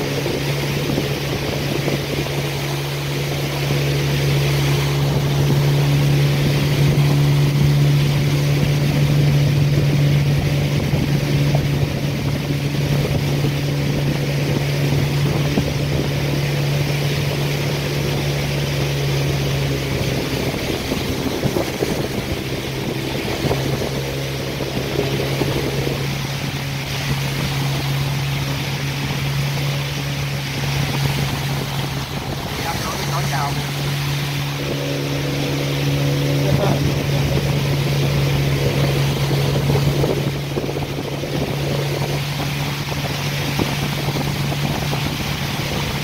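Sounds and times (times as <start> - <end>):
motorboat engine droning: 0.0 - 46.0
water rushing: 0.0 - 46.0
wind: 0.0 - 46.0.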